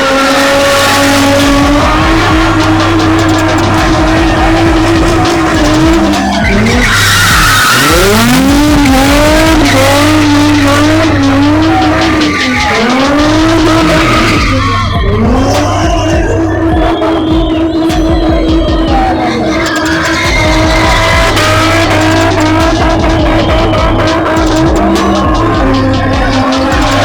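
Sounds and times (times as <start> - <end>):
car engine at high revs: 0.0 - 27.0
tyres screeching: 0.0 - 27.0.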